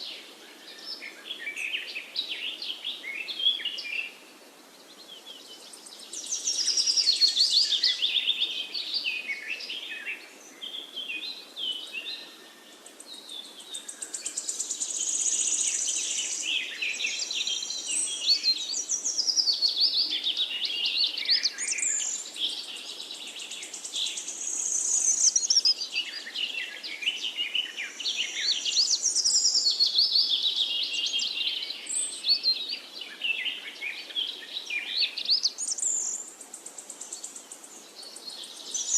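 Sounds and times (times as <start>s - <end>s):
birds chirping and trilling: 4.8s - 38.9s.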